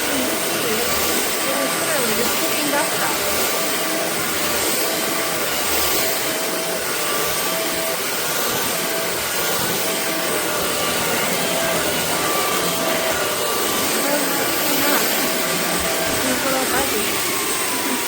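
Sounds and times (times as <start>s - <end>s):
stick vacuum running: 0.0s - 18.0s.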